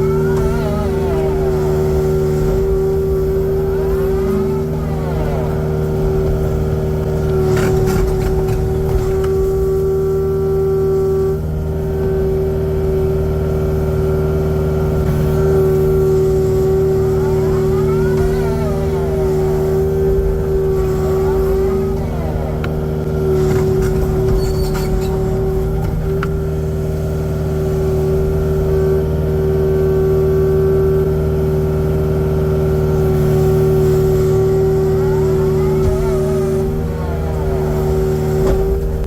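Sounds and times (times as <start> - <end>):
excavator diesel engine running: 0.0 - 39.0
rising and falling whines: 0.0 - 39.0.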